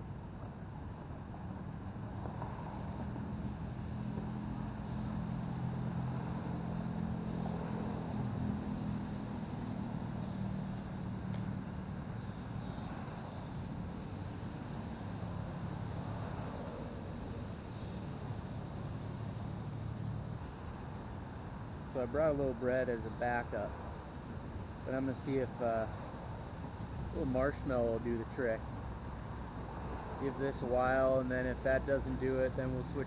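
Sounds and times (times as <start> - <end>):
traffic hum: 0.0 - 33.0.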